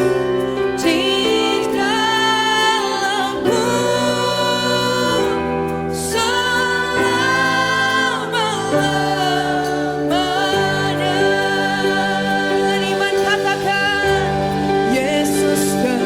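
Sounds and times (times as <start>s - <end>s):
choir singing worship song: 0.0s - 16.0s.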